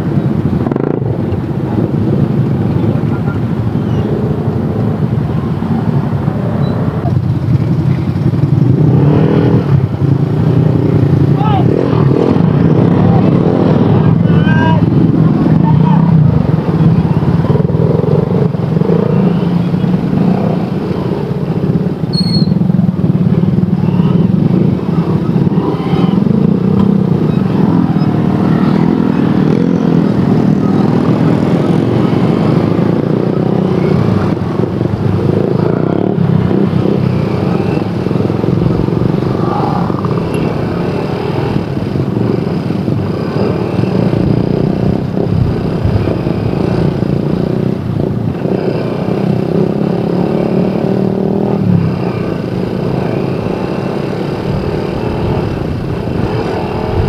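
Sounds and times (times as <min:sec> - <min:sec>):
motorcycle engine running: 0:00.0 - 0:57.0
other motorcycle engines: 0:00.0 - 0:57.0.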